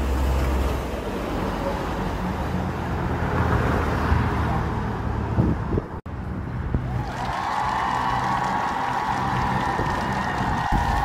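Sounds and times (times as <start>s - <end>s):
road traffic rush: 0.0s - 11.0s.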